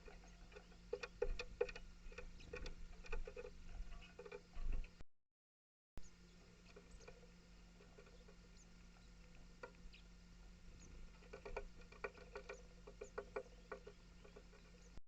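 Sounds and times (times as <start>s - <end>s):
small animal ticking and tapping: 0.0s - 5.0s, 6.4s - 15.0s
steady low hum: 0.0s - 5.0s, 6.0s - 15.0s.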